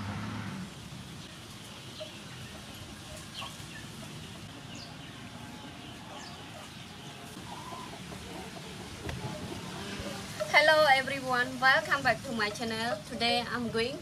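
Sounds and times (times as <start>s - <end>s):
low background noise: 0.0s - 14.0s
chickens clucking faintly: 1.3s - 14.0s.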